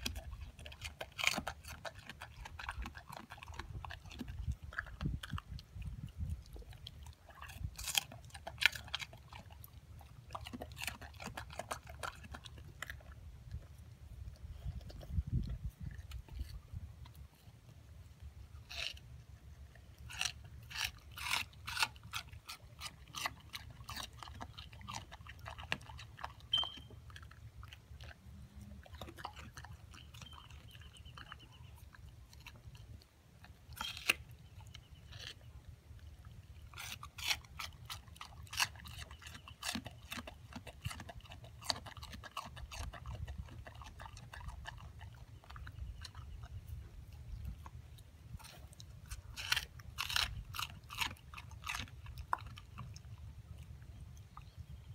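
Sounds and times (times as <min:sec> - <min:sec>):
dog crunching watermelon rind: 0:00.0 - 0:54.9.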